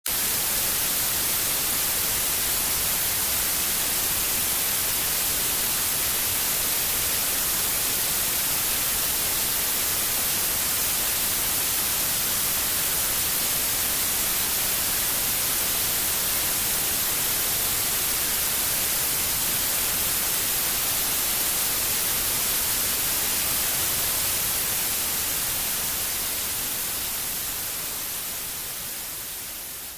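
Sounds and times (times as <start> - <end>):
electronic hiss: 0.1 - 29.9.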